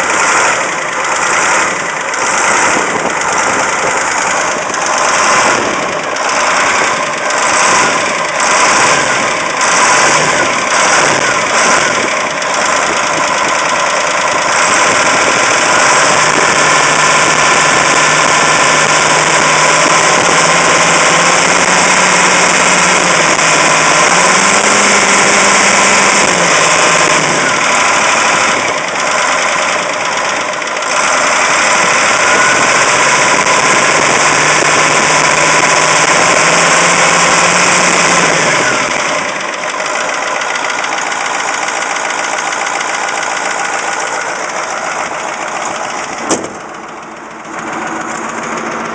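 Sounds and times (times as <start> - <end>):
diesel engine with rattling knock: 0.0 - 48.9.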